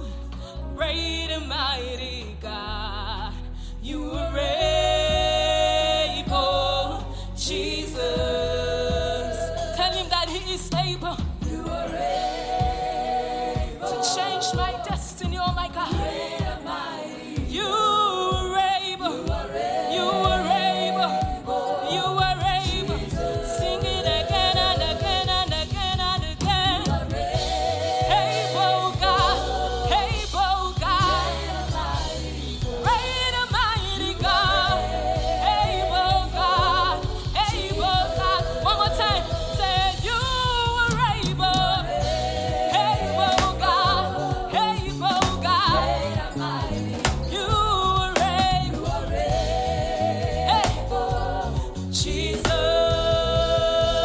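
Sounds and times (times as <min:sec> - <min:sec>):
sustained bass notes: 0:00.0 - 0:16.8, 0:19.3 - 0:54.0
voices singing gospel music: 0:00.0 - 0:54.0.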